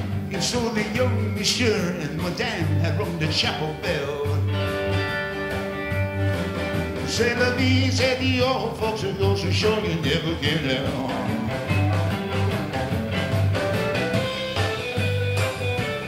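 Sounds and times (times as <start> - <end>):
drum kit beat: 0.0 - 16.0
electric bass: 0.0 - 16.0
electric guitar lead with vibrato: 0.0 - 16.0.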